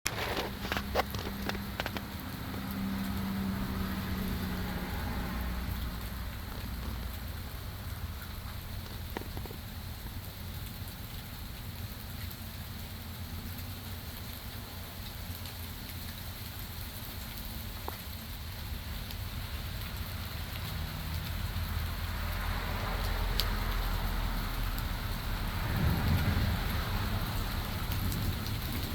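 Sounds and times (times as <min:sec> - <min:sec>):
steady rain pattering: 0:00.1 - 0:28.9.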